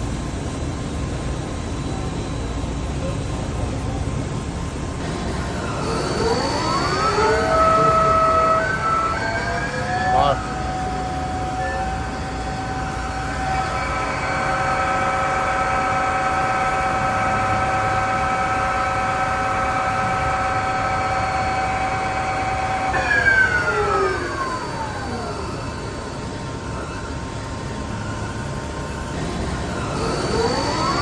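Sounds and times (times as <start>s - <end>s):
lathe spindle running: 3.4s - 31.0s.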